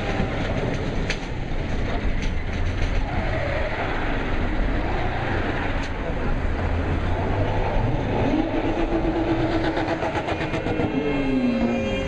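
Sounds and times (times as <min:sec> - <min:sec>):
heavy machinery engine rumble: 0:00.0 - 0:12.0.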